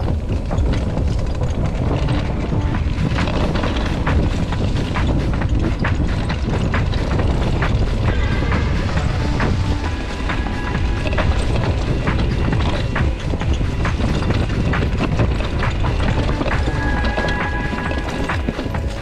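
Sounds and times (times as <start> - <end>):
bike rattling over rough ground: 0.0 - 19.0
wind buffeting the microphone: 0.0 - 19.0.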